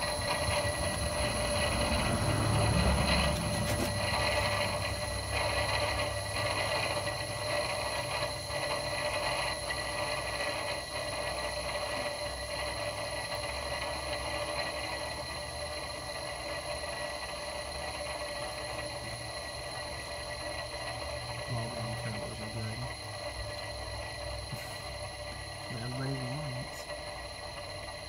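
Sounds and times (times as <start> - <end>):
low engine rumble: 0.0 - 28.0
turbocharger whine: 0.0 - 28.0.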